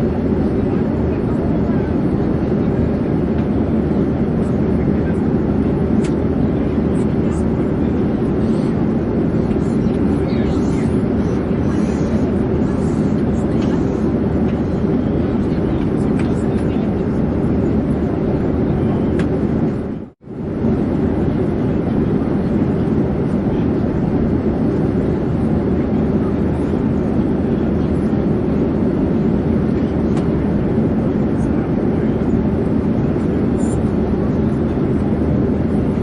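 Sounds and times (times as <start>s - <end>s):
airplane engine drone: 0.0s - 36.0s.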